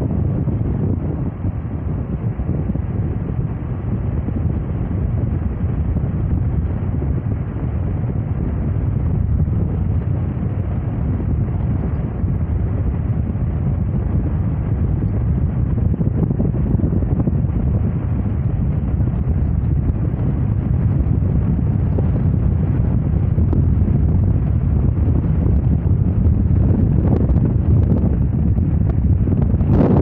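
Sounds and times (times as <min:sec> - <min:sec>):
wind buffeting: 0:00.0 - 0:30.0.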